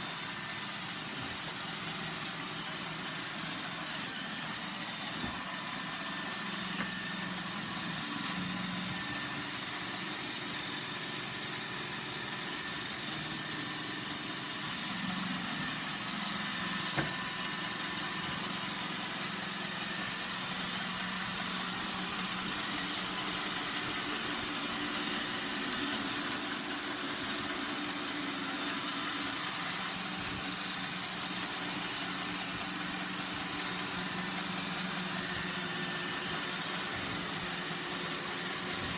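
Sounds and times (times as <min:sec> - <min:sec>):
robot vacuum whirring: 0:00.0 - 0:38.9.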